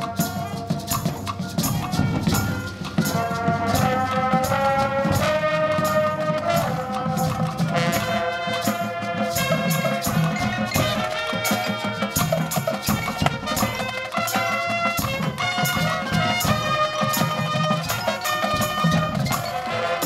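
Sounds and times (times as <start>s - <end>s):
drum and percussion hits: 0.0s - 20.0s
marching band brass chords: 0.0s - 20.0s.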